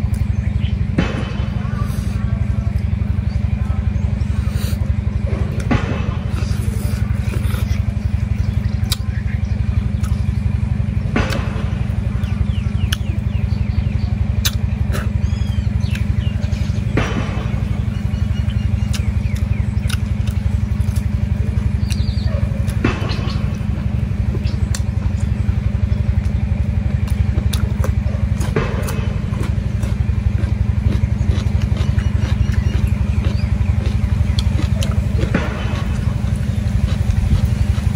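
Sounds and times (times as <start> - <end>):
low machine rumble: 0.0 - 37.9.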